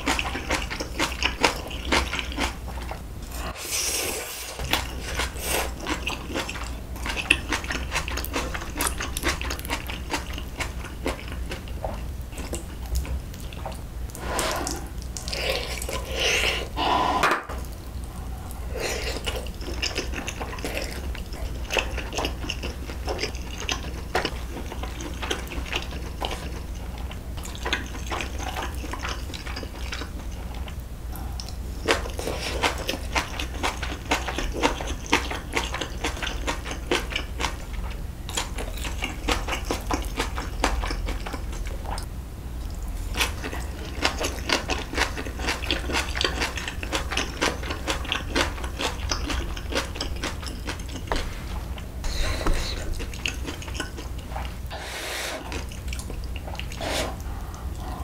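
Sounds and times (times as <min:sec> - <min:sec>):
wet chewing and biting: 0:00.0 - 0:03.0, 0:04.6 - 0:13.9, 0:17.6 - 0:54.7, 0:55.4 - 0:58.0.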